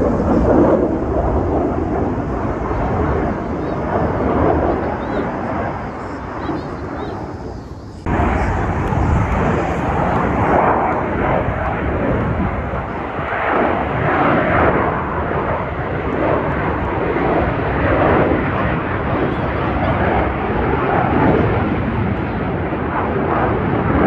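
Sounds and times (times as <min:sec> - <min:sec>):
aircraft engine roar: 0:00.0 - 0:24.0.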